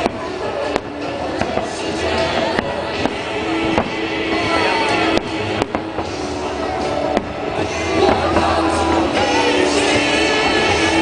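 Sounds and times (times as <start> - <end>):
fireworks bangs: 0.0 - 11.0
loud music: 0.0 - 11.0.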